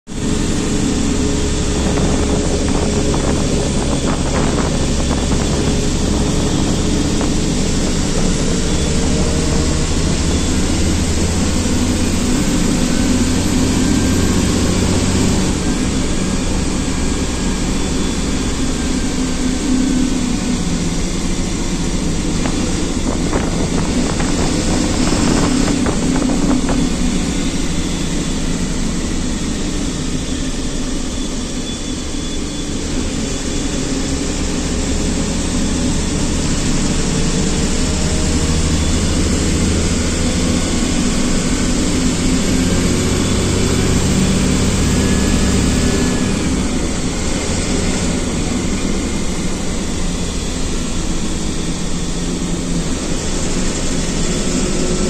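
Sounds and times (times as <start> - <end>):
vehicle engine drone: 0.0 - 55.0
road noise: 0.1 - 55.0.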